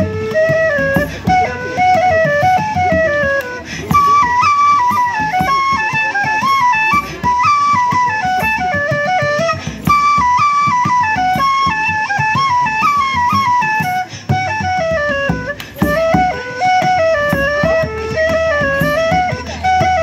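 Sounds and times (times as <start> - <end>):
flute playing quick melody: 0.0 - 20.0
rhythmic accompaniment: 0.0 - 20.0.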